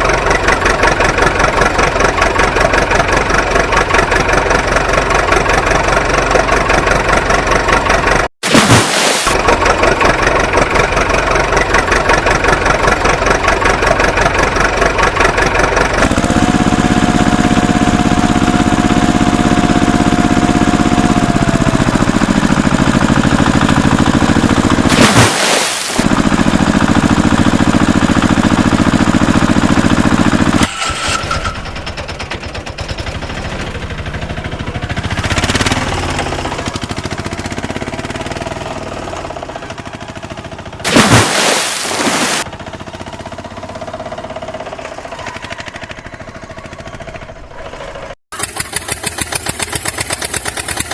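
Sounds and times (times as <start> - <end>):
vehicle engines idling: 0.0 - 8.3, 9.3 - 24.9, 26.0 - 40.9, 42.4 - 50.9.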